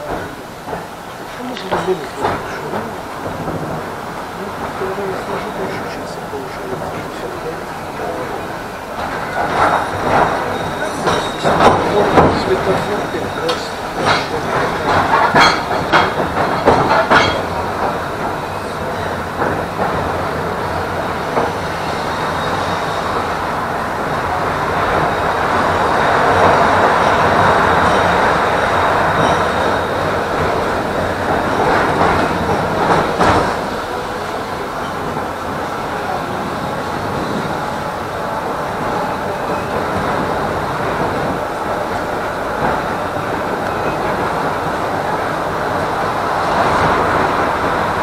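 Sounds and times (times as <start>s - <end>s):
tram wheels rumbling on rails: 0.0s - 48.0s
wheels clacking over rail joints: 0.0s - 48.0s.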